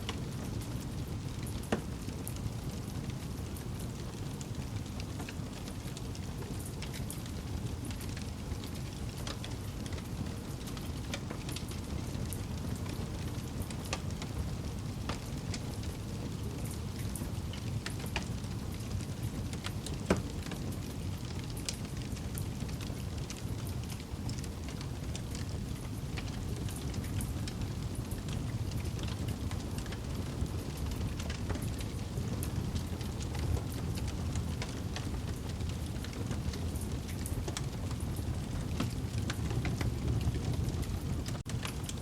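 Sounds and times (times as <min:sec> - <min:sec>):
campfire flames burning: 0:00.0 - 0:42.0
fire crackling and popping: 0:00.0 - 0:42.0.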